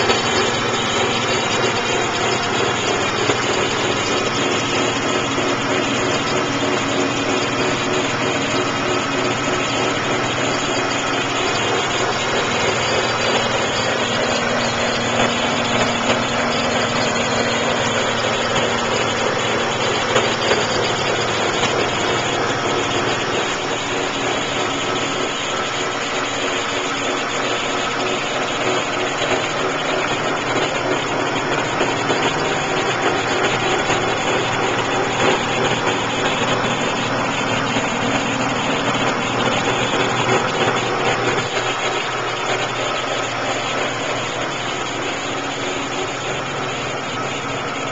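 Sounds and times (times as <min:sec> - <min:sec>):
car engine idling: 0:00.0 - 0:47.9
steady extra engine noise: 0:00.0 - 0:47.9.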